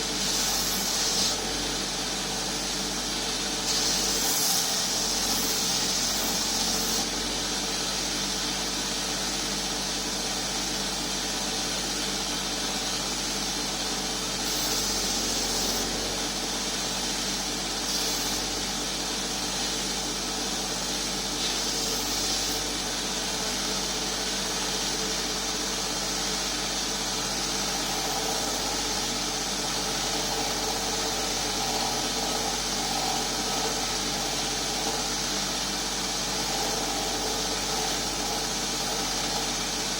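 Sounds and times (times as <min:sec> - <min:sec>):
abrasive hissing on workpiece: 0:00.0 - 0:10.2, 0:12.8 - 0:39.9
grinder motor hum: 0:00.0 - 0:39.9.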